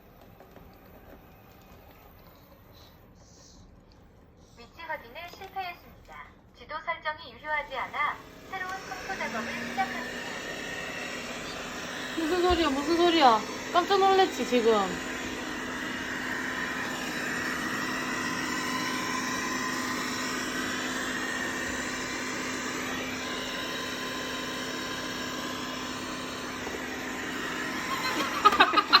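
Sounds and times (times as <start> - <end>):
robot vacuum cleaner whirring: 0.0 - 3.4, 7.6 - 29.0.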